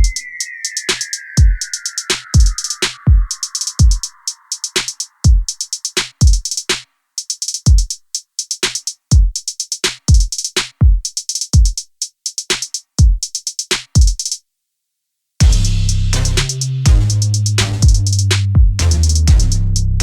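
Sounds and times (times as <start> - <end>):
electronic music drum-machine beat: 0.0 - 14.4, 15.4 - 20.0.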